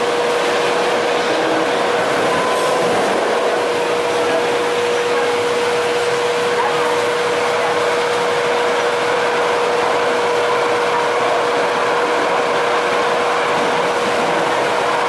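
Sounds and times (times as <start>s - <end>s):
light rail running noise: 0.0s - 15.0s
steady hum: 0.0s - 15.0s.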